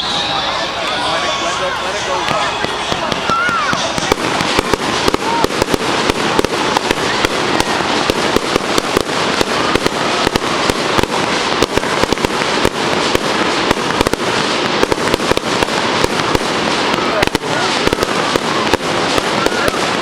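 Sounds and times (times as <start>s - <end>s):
fireworks bangs and pops: 0.0s - 20.0s
fireworks crackle: 0.0s - 20.0s.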